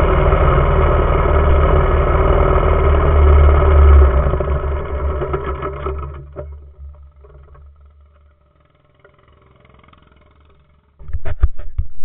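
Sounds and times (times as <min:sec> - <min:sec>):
small engine winding down: 0:00.0 - 0:11.0.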